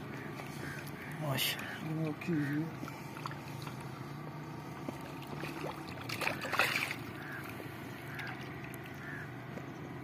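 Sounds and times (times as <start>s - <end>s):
fish splashing in water: 0.0s - 1.6s, 2.7s - 9.4s
low motor hum: 0.0s - 10.0s.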